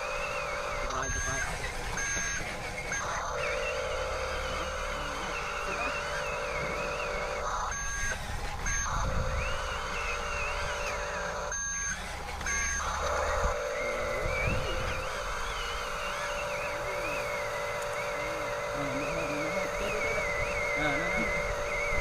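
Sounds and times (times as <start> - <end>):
toy electric motors whining: 0.0 - 22.0.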